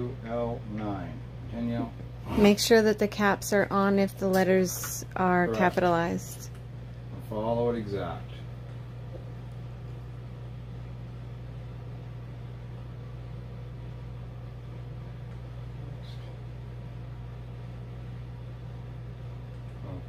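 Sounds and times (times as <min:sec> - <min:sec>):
low machine hum with hiss: 0:00.0 - 0:20.0.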